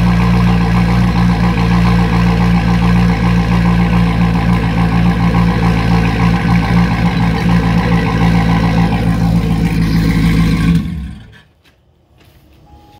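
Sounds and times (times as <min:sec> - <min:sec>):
car engine idling: 0:00.0 - 0:11.5.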